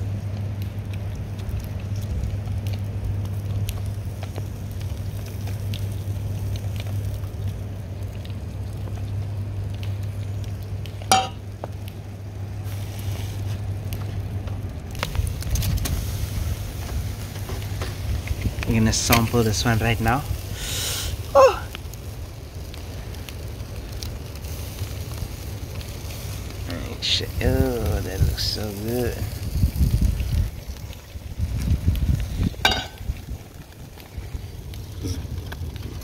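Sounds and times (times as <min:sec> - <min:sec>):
seafood sizzling on a grill: 0:00.0 - 0:36.0
small crackles: 0:00.0 - 0:36.0
steady low hum: 0:00.0 - 0:36.0.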